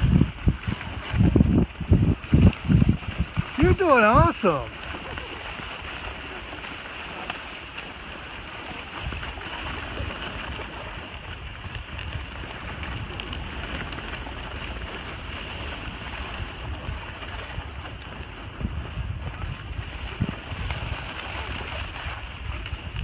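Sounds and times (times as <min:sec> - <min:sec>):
skis scraping over snow: 0:00.0 - 0:23.0
wind on microphone: 0:00.0 - 0:23.0.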